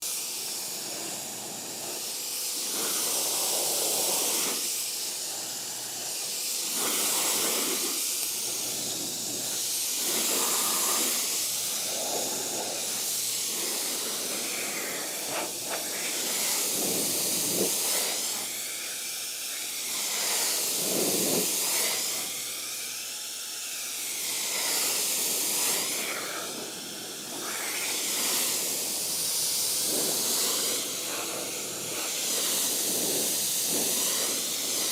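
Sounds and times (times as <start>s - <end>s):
pressure washer spray hissing: 0.0s - 34.9s.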